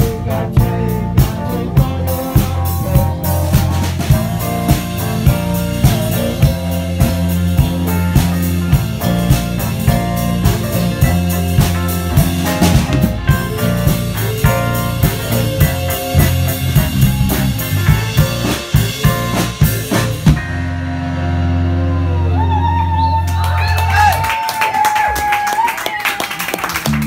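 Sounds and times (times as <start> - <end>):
folk band with drums and guitar: 0.0 - 22.0.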